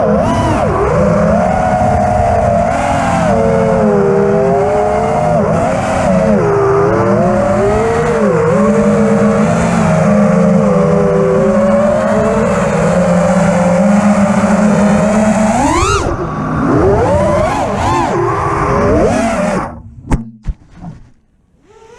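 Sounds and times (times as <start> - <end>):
drone motors whining: 0.0 - 20.1, 20.7 - 21.9.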